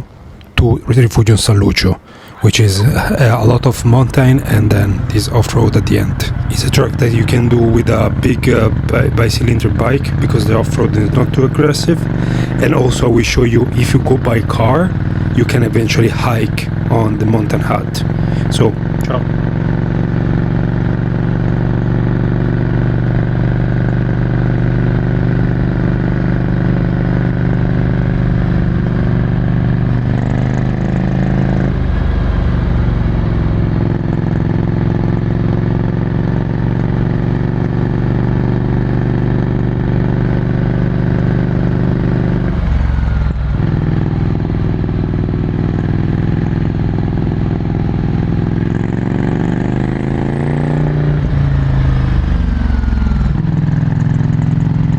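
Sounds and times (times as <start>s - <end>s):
motorcycle engine running: 3.0s - 54.9s.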